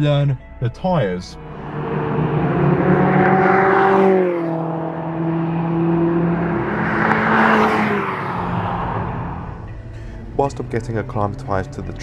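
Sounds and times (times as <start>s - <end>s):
car engine pulling: 1.2s - 12.0s
tyre and road noise: 1.4s - 12.0s.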